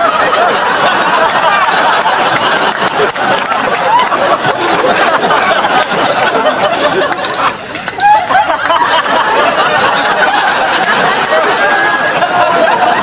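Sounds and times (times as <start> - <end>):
crowd chatter: 0.0 - 13.0
laughter: 0.0 - 13.0.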